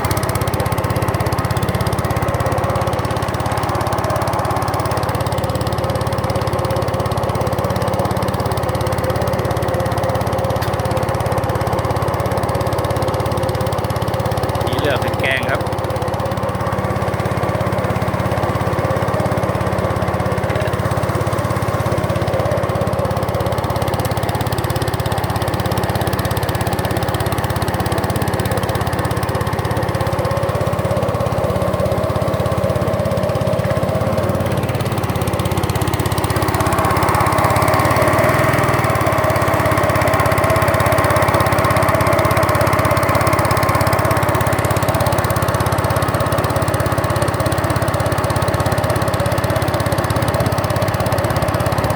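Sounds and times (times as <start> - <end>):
small boat engine running: 0.0 - 51.9.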